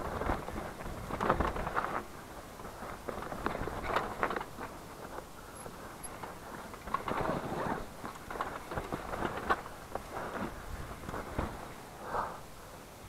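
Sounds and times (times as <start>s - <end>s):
bike rattling: 0.0s - 11.9s.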